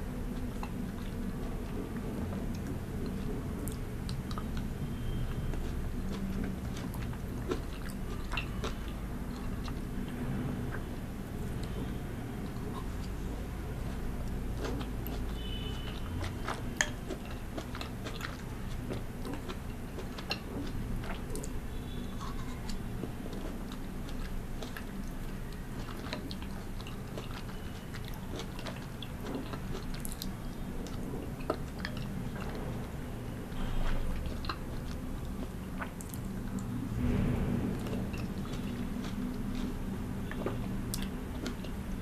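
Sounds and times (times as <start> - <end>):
chewing soft fruit: 0.0 - 42.0.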